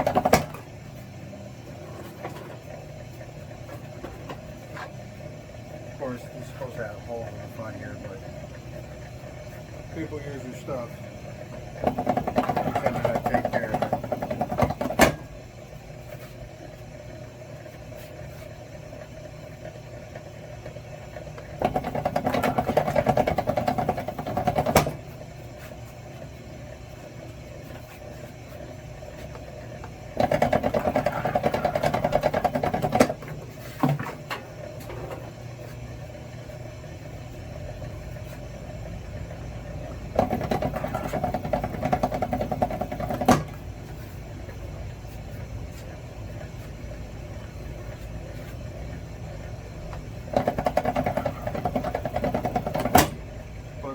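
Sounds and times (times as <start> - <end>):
wire stripping machine running: 0.0 - 0.9, 1.5 - 16.0, 18.7 - 25.3, 28.7 - 53.9.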